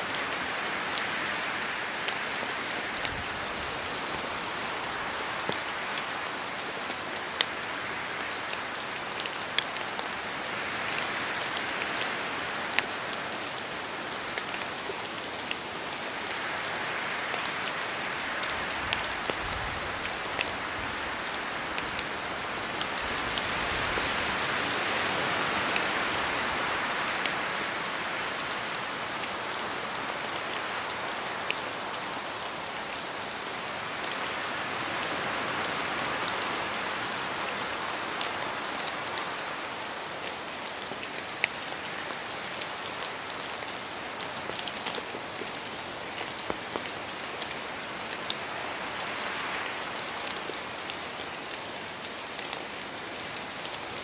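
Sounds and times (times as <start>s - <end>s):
steady rain falling: 0.0s - 54.0s
raindrops ticking close by: 0.1s - 54.0s.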